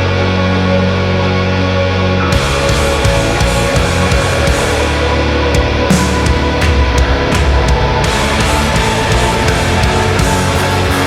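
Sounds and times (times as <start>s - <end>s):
heavy distorted rock music: 0.0s - 11.0s.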